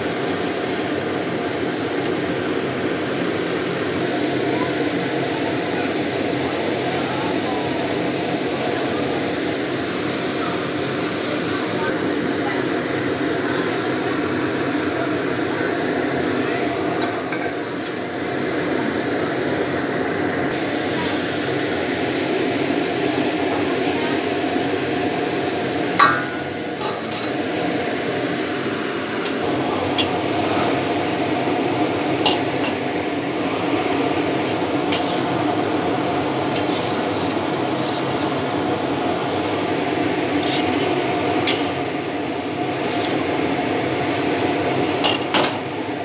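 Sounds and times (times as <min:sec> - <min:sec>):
steady mechanical hum: 0:00.0 - 0:46.0.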